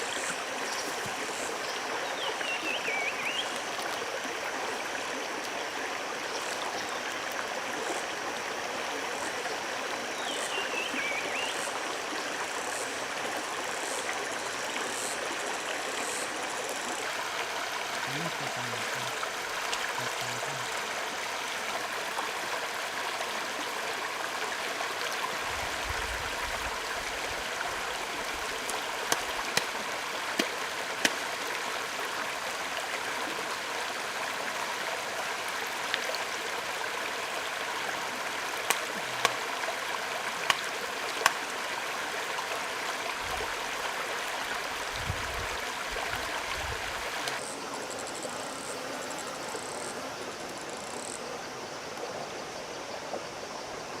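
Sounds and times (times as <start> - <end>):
forest stream rushing: 0.0 - 54.0.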